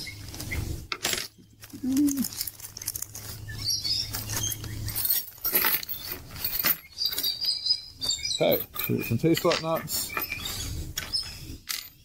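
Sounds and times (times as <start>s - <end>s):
small metal nuts clinking: 0.9s - 12.0s.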